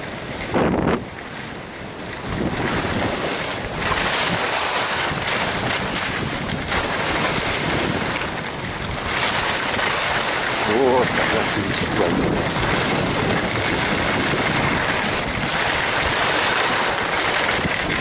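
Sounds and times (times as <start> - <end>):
wind on microphone: 0.0 - 18.0
skis scraping over snow: 2.3 - 18.0.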